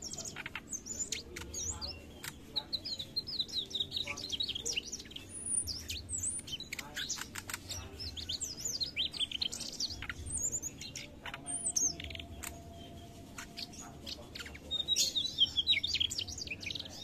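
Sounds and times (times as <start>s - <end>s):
flycatcher twittering song: 0.0s - 17.0s.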